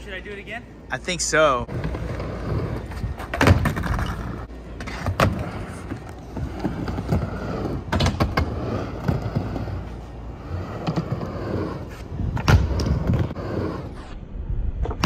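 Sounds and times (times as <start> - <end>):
skateboard wheels rolling: 1.6 - 15.0.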